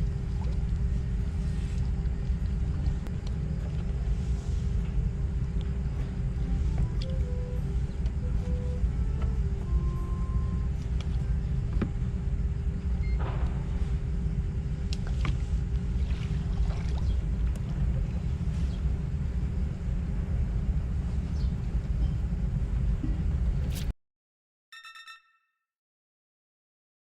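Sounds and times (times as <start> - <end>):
faint steady hum: 0.0 - 23.9
steady low rumble: 0.0 - 23.9.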